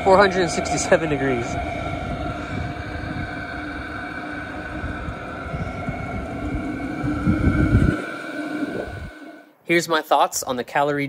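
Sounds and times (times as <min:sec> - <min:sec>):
low burner rumble: 0:00.0 - 0:09.4
blower fan whine: 0:00.0 - 0:09.5.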